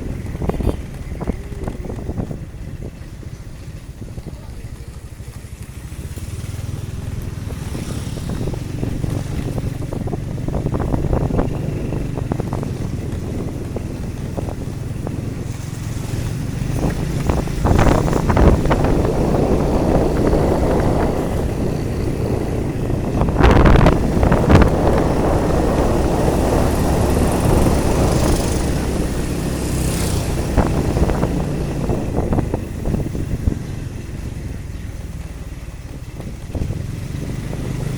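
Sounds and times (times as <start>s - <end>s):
vehicle engine running: 0.0s - 37.9s
wind rushing over microphone: 0.0s - 37.9s.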